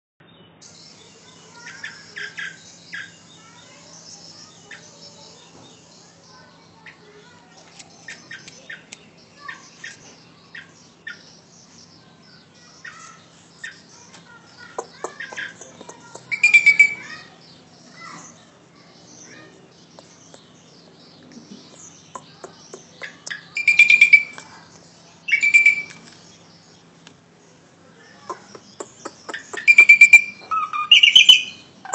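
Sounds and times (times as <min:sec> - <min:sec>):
starling short sharp calls: 0:00.6 - 0:31.9.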